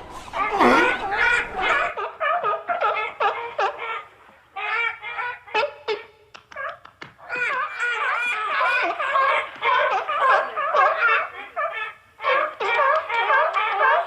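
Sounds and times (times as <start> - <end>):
seal calling: 0.0 - 14.0.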